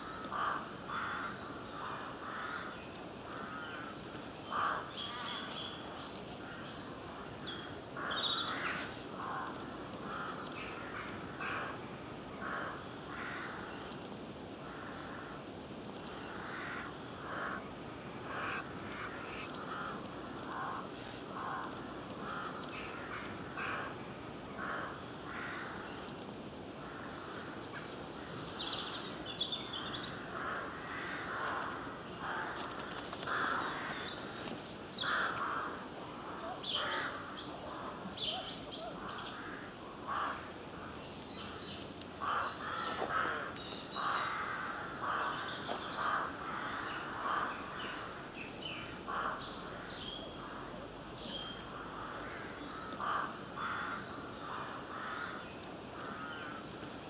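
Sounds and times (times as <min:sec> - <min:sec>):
harsh crow-like calls: 0:00.0 - 0:05.6, 0:08.0 - 0:11.8, 0:12.4 - 0:14.0, 0:14.6 - 0:15.4, 0:16.0 - 0:26.2, 0:26.8 - 0:38.1, 0:38.8 - 0:40.6, 0:42.2 - 0:50.9, 0:51.5 - 0:56.8
small birds chirping: 0:00.0 - 0:44.3, 0:45.0 - 0:57.0.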